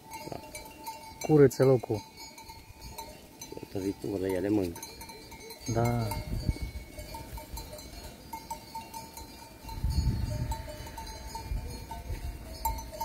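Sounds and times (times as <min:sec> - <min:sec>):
sheep bells clinking: 0:00.0 - 0:13.0.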